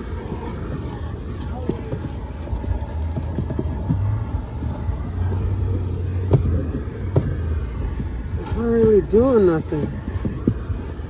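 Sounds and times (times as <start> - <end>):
vacuum hose droning: 0.0 - 11.0.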